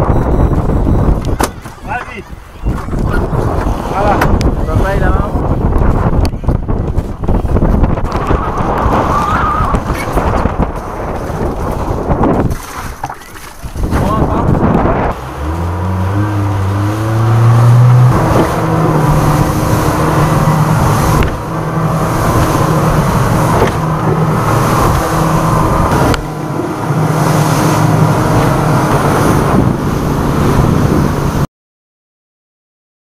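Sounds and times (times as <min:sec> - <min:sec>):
outboard engine running: 0:00.0 - 0:31.4
wind and spray rushing: 0:00.0 - 0:31.5.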